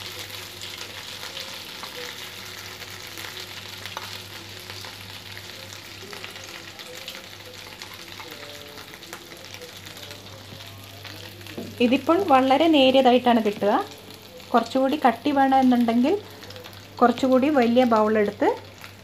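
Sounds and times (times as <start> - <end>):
oil sizzling and crackling in a pan: 0.0 - 19.0.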